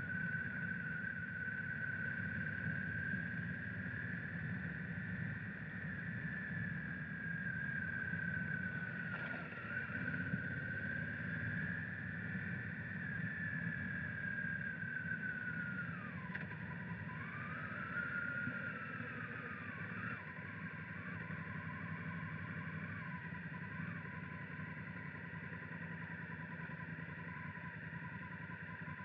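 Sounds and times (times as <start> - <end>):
low engine rumble: 0.0 - 29.0
motorcycle engine whine: 0.0 - 29.0.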